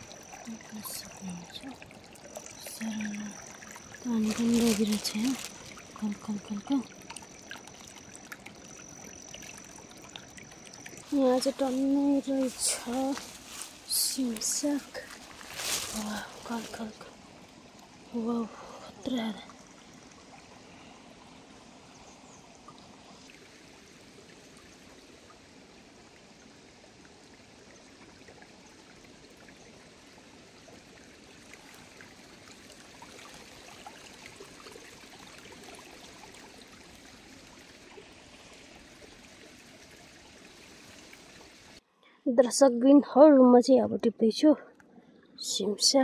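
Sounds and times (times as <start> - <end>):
stream babbling: 0.0 - 41.8, 42.4 - 46.0.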